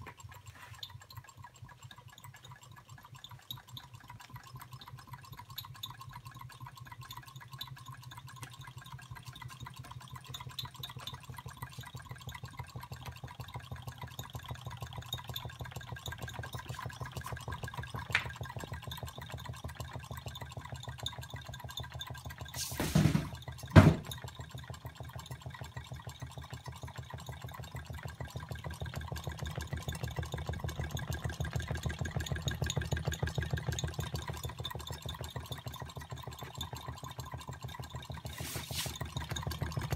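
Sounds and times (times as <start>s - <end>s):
engine linkages ticking: 0.0s - 39.9s.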